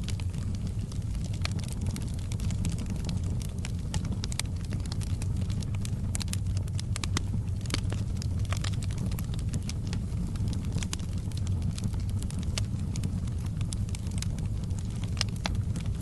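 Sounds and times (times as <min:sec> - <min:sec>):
pops and snaps of fire: 0:00.0 - 0:16.0
wood fire crackling: 0:00.0 - 0:16.0.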